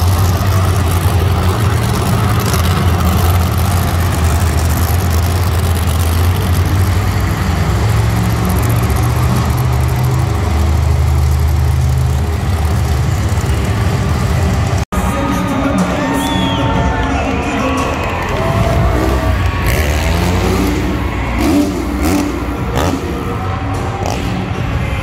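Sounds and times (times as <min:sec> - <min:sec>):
truck engines rumbling: 0:00.0 - 0:25.0.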